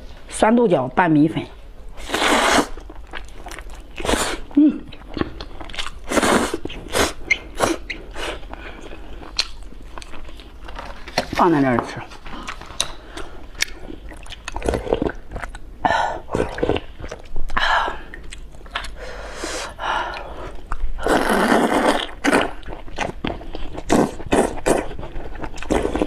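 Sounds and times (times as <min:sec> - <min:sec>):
chewing and mouth noises: 0:02.7 - 0:11.3, 0:12.2 - 0:19.0, 0:20.1 - 0:26.0.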